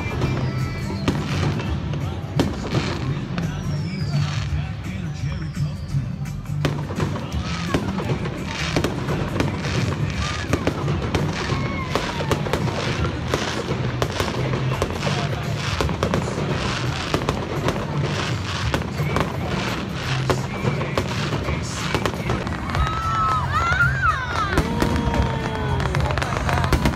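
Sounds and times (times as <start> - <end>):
firework whistles: 0.0 - 26.9
fireworks bangs and crackling: 0.0 - 26.9.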